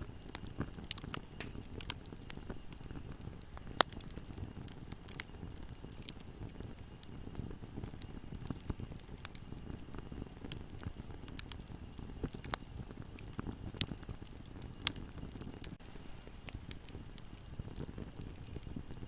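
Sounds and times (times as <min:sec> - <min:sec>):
bonfire flames rumbling: 0:00.0 - 0:19.0
fire crackling and popping: 0:00.0 - 0:19.0.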